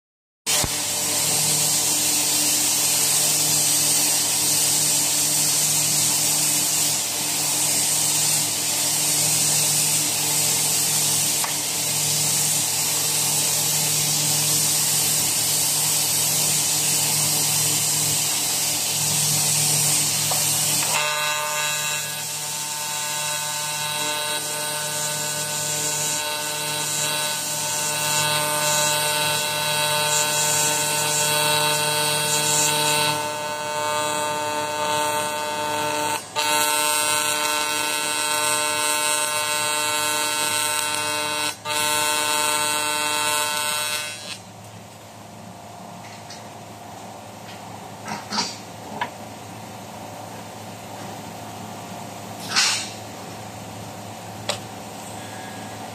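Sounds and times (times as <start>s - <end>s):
welding arc buzzing: 0.5s - 45.0s, 51.6s - 55.9s
shop machinery humming: 0.5s - 55.9s.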